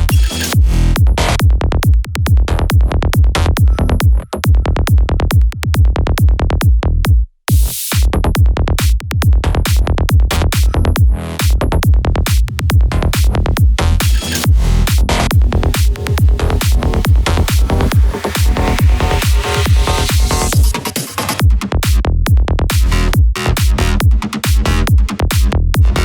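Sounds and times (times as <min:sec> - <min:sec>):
fast psychedelic trance music: 0:00.0 - 0:06.3, 0:07.5 - 0:26.0.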